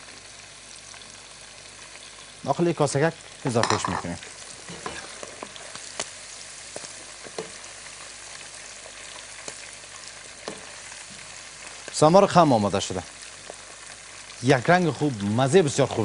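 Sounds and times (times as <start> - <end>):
mushrooms sizzling in oil: 0.0 - 16.0.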